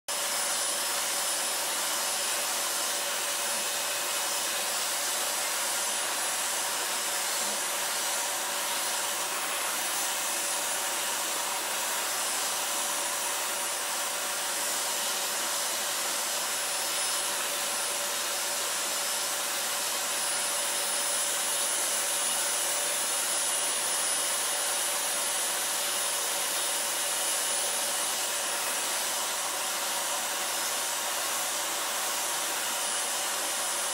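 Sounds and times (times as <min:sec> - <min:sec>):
vacuum cleaner running: 0:00.1 - 0:33.9
vacuum nozzle through fur: 0:00.1 - 0:33.9.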